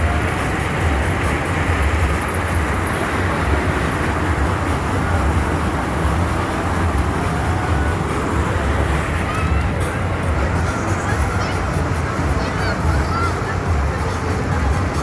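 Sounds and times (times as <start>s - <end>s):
heavy fluttering low rumble: 0.0s - 15.0s.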